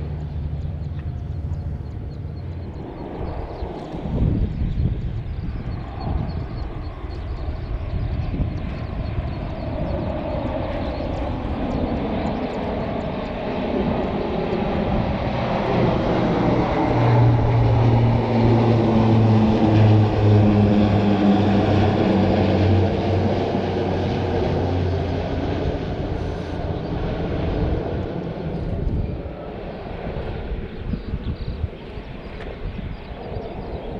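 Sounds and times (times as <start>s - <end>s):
aircraft engine drone: 0.0s - 33.9s.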